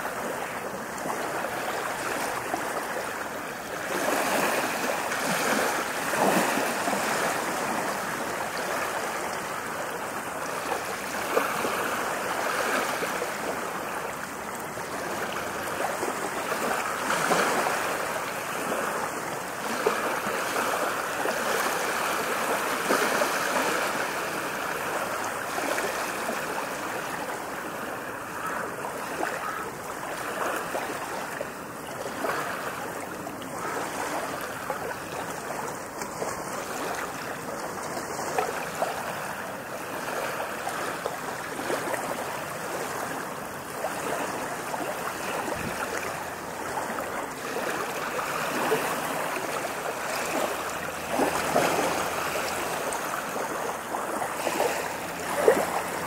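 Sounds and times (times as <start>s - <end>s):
ocean waves surf: 0.0s - 56.0s.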